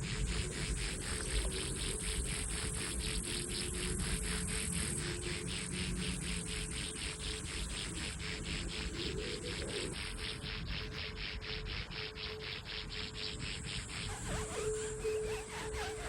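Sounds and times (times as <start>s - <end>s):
high-pitched insect buzz: 0.0s - 16.0s
insects chirping: 0.0s - 16.0s.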